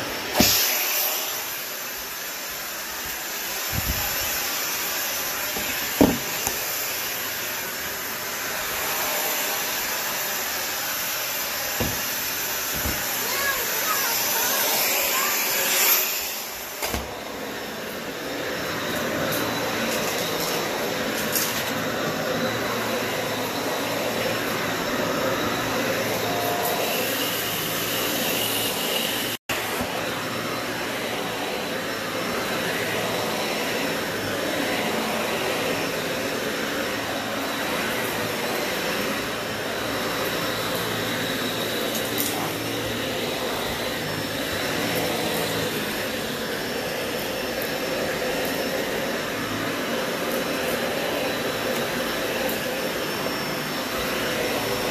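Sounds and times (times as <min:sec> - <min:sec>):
vacuum cleaner running on carpet: 0:00.0 - 0:54.9.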